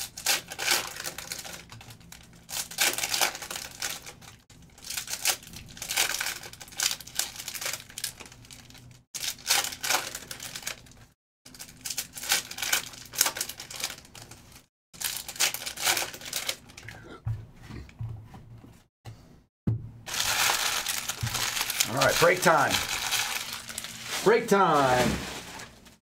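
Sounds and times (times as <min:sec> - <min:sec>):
foil wrappers crinkling and tearing: 0:00.0 - 0:16.8, 0:20.1 - 0:26.0.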